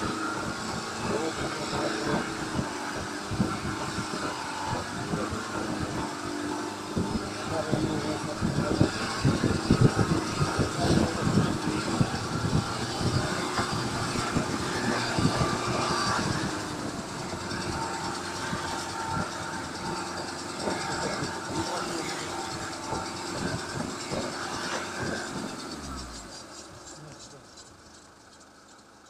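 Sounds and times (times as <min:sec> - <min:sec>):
car engine drone: 0:00.0 - 0:29.0
wheel spinning on ice: 0:00.0 - 0:29.0.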